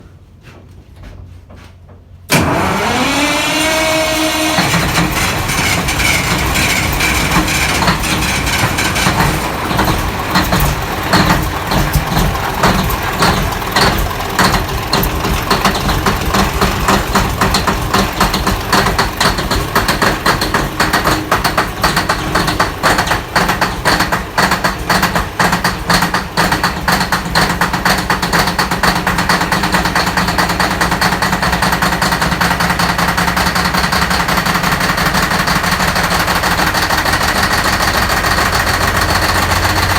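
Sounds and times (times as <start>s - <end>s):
diesel generator engine running: 2.3s - 39.9s.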